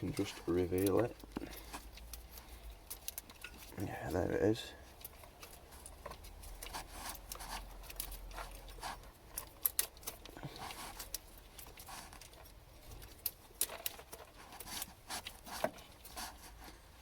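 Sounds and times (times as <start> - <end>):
hands handling wires and plastic: 0.0 - 17.0.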